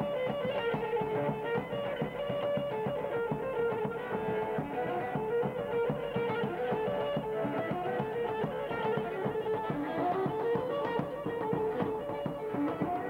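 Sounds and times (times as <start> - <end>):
running folk melody: 0.0 - 13.0.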